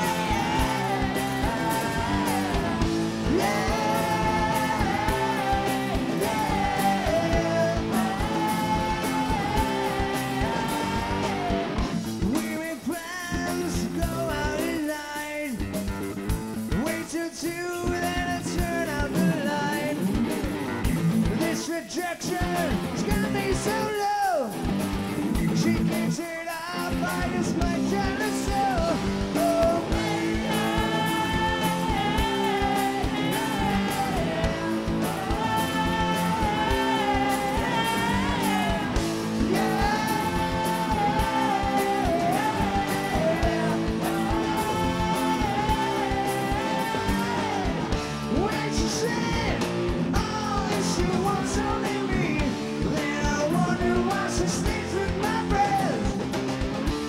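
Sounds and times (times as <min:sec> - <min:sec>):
person singing: 0:00.0 - 0:15.6, 0:16.7 - 0:20.2, 0:25.4 - 0:56.3
live rock band playing: 0:00.0 - 0:57.0.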